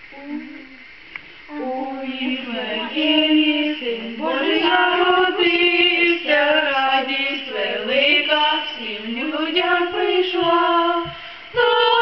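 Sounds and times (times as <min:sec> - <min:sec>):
woman and boys singing carol: 0:01.5 - 0:12.0.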